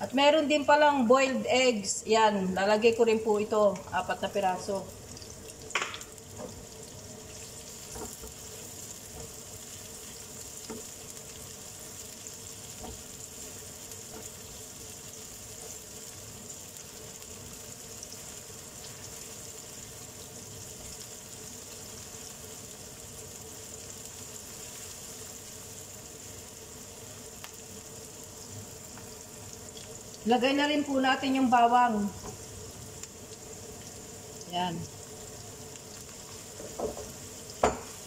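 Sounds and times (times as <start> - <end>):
onion sizzling in oil: 0.0 - 38.0.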